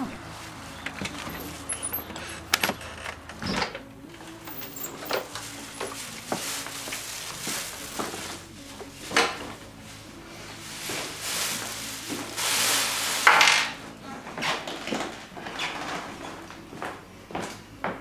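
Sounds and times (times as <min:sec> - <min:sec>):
footsteps: 0:00.0 - 0:18.0.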